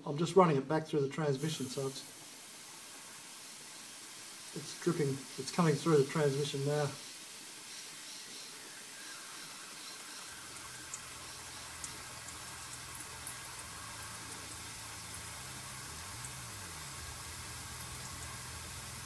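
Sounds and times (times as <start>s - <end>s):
fluid hissing and trickling: 1.3s - 19.0s.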